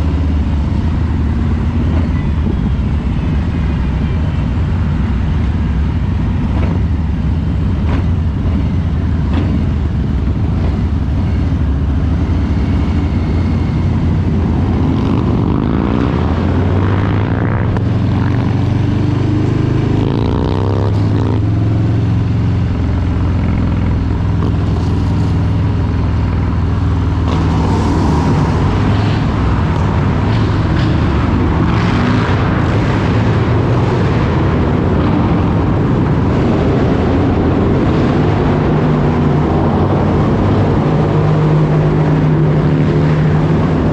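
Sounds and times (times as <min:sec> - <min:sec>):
motorcycle engine accelerating: 0:05.0 - 0:43.9.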